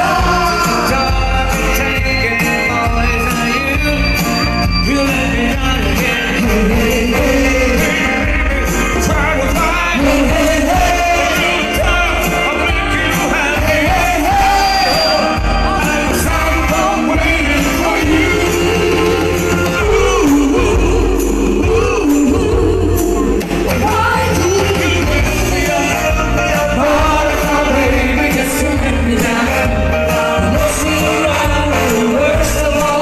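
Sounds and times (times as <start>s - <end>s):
rock and roll band with singer: 0.0s - 33.0s.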